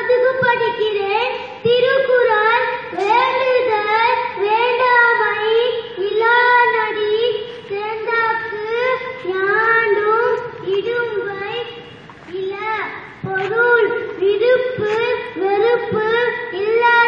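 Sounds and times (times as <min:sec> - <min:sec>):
young child singing: 0:00.0 - 0:17.0.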